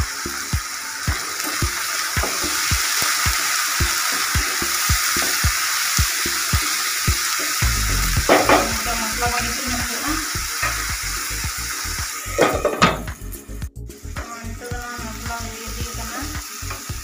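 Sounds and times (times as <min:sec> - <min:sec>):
background music with steady beat: 0:00.0 - 0:17.0
masala sizzling in oil: 0:00.0 - 0:17.0.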